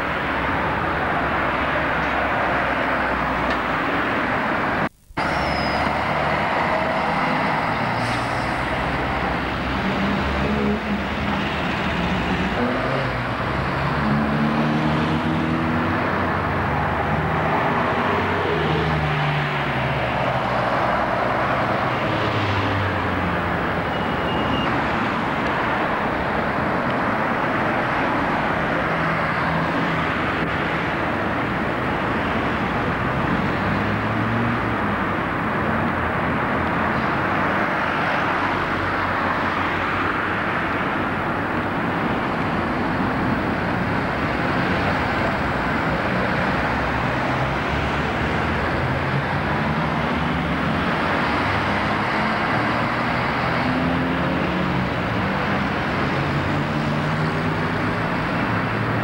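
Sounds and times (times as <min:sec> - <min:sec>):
bus engines pulling away: 0:00.0 - 0:59.0
traffic hum: 0:00.0 - 0:59.0.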